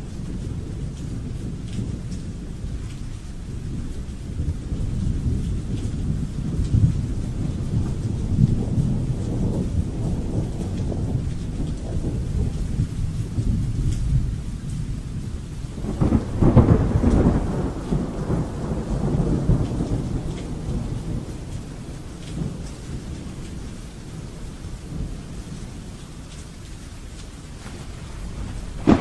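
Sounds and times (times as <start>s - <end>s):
rolling thunder: 0.0s - 29.0s
steady rain: 0.0s - 29.0s.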